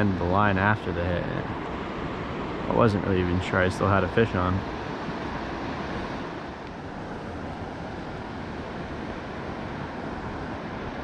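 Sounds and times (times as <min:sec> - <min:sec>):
fast water rushing: 0:00.0 - 0:11.0.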